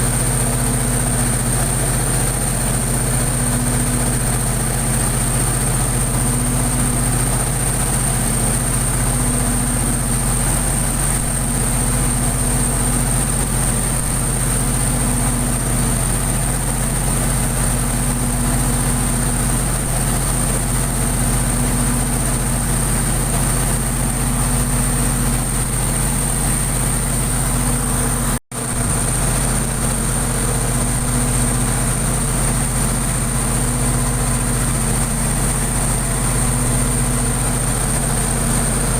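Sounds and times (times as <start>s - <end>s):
diesel generator humming: 0.0s - 38.9s
steady high whine: 0.0s - 38.9s.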